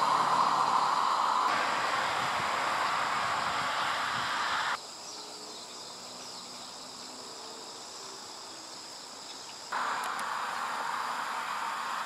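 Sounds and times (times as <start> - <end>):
loud steady hiss: 0.0 - 12.0.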